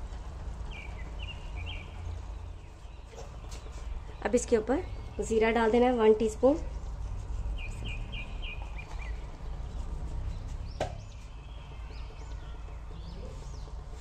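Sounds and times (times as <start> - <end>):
small bird chirping: 0.6 - 6.1, 7.4 - 13.8.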